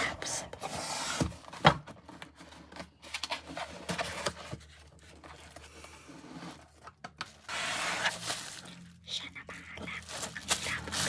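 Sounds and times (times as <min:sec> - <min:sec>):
objects rustling and scraping: 0:00.0 - 0:11.0.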